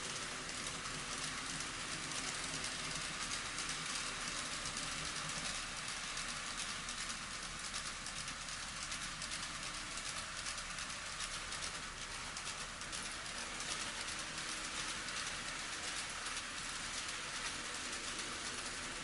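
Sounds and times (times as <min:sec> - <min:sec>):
model train rattling on rails: 0:00.0 - 0:19.0.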